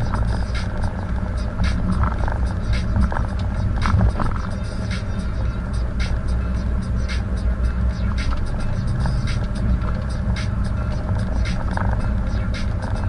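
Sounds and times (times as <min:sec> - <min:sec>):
ticks and rattles: 0:00.0 - 0:13.0
tyre and engine rumble: 0:00.0 - 0:13.0.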